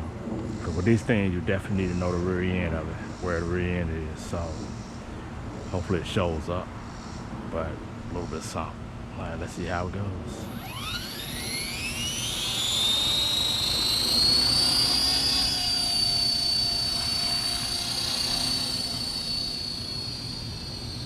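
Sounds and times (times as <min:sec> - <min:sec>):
electric motor and rotor whine: 0:00.0 - 0:21.0.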